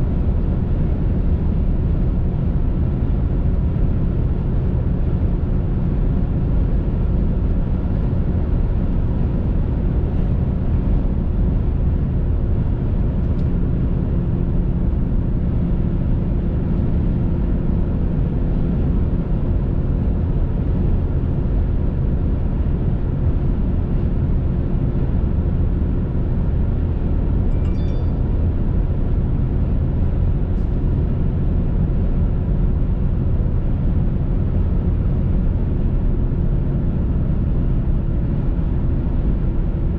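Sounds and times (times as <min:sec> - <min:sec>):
car interior road noise: 0:00.0 - 0:39.9.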